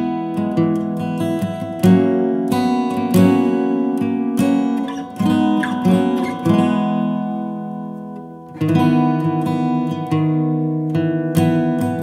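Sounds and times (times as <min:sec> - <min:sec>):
strummed acoustic guitar chords: 0:00.0 - 0:12.0.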